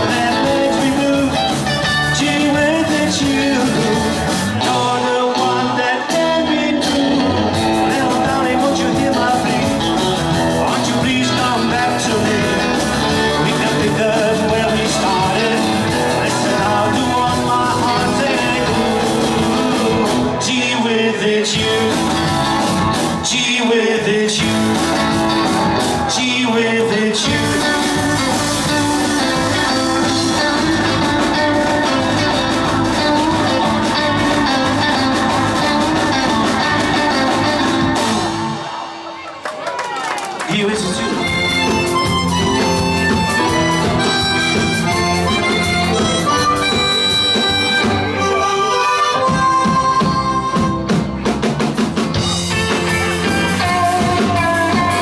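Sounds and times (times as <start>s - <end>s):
bass guitar: 0.0s - 39.3s, 40.5s - 55.0s
electric guitar: 0.0s - 55.0s
rock band playing: 0.0s - 55.0s.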